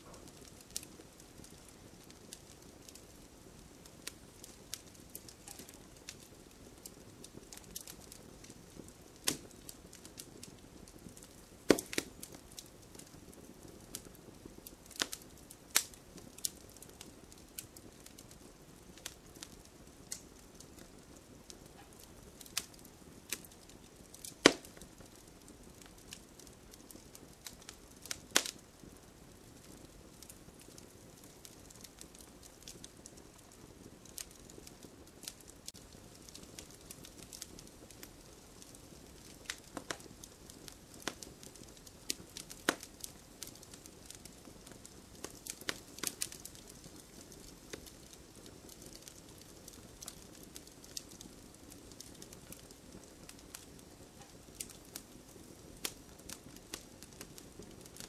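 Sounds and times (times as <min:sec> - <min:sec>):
fire pops and snaps: 0:00.0 - 0:58.0
low steady hiss: 0:00.0 - 0:58.0.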